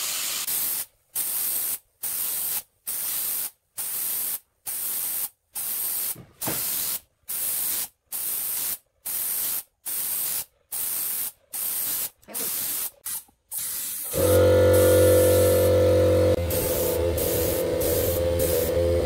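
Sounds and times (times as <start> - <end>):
aerosol spray bursts: 0.0 - 19.0.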